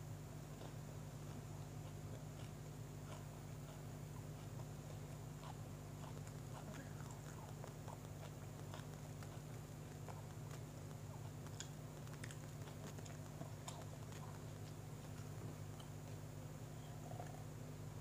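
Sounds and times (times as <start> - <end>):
steady low hum: 0.0 - 18.0
wet mouth clicks chewing: 0.6 - 16.2.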